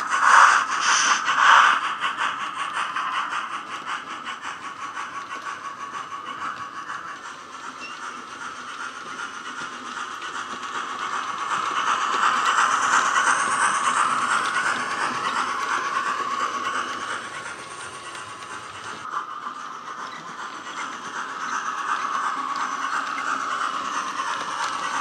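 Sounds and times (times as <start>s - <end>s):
model steam locomotive sounds: 0.0s - 25.0s
model wheels rattling on track: 1.8s - 25.0s.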